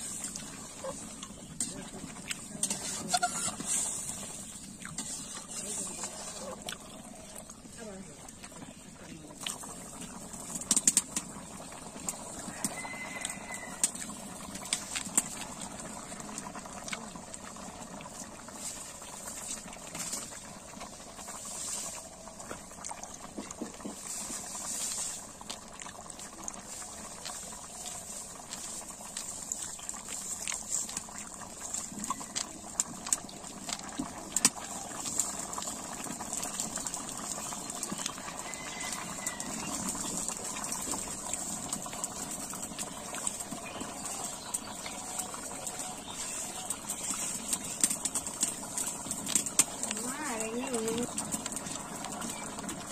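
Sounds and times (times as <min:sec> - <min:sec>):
curry boiling in a pot: 0:00.0 - 0:52.9
wood fire crackling: 0:00.0 - 0:52.9.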